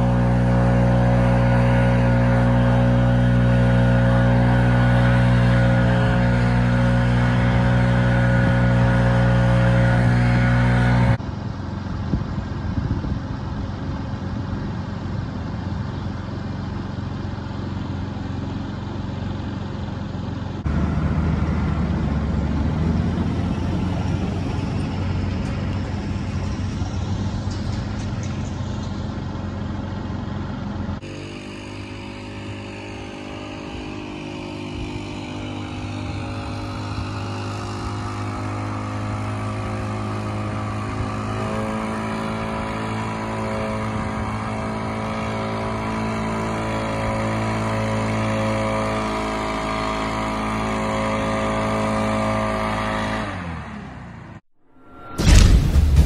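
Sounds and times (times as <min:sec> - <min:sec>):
work machinery engines running: 0:00.0 - 0:56.0.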